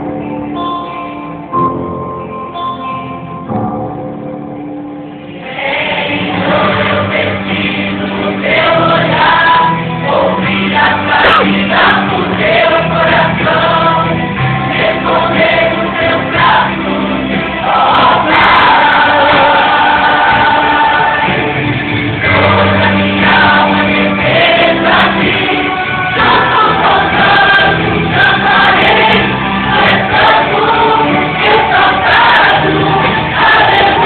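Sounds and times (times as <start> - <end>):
choir singing gospel song: 5.3 - 34.0.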